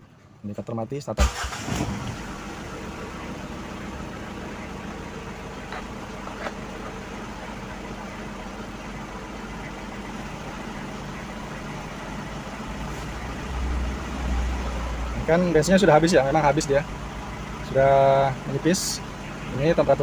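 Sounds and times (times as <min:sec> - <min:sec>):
diesel engine idling: 0:01.2 - 0:20.0.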